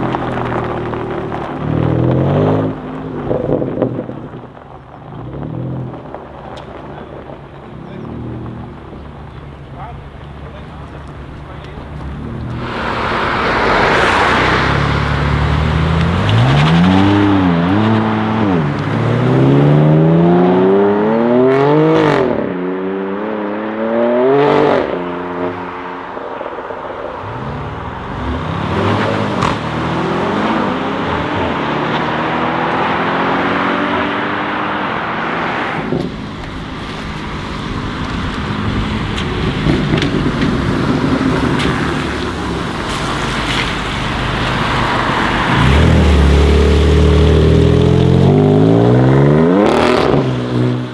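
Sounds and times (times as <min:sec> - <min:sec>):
exhaust cracks: 0:00.0 - 0:22.5, 0:24.6 - 0:50.9
car engine accelerating hard: 0:00.0 - 0:50.9.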